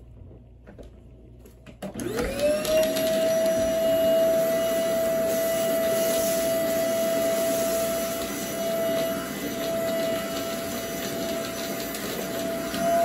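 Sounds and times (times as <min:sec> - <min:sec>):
vacuum cleaner whining: 0:01.8 - 0:13.0.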